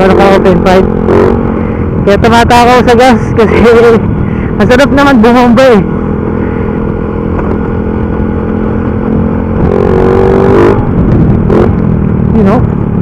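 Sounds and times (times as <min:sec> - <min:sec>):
motorcycle engine loud exhaust: 0:00.0 - 0:13.0.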